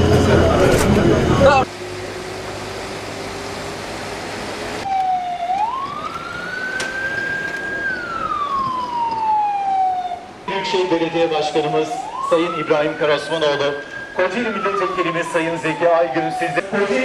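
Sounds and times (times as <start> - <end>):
siren wailing: 0.0 - 1.7, 4.8 - 16.7.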